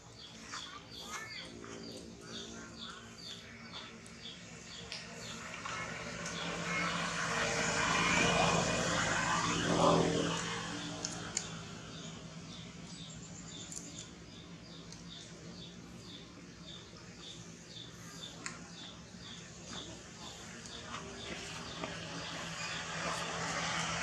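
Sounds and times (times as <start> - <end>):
engine passing by: 0.1 - 24.0.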